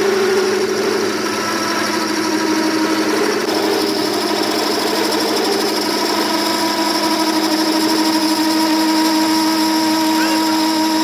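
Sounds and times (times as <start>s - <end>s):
machine tool humming: 0.0s - 11.0s.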